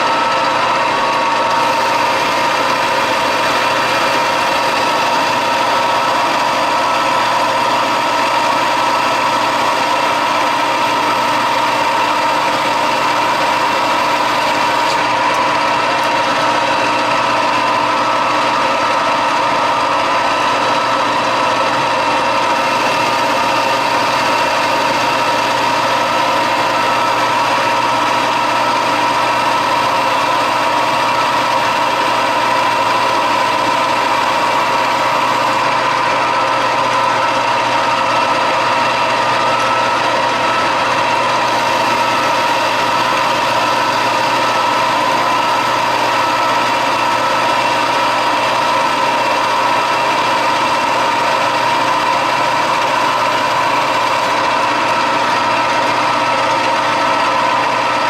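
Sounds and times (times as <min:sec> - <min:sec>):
metal lathe whining: 0:00.0 - 0:58.0.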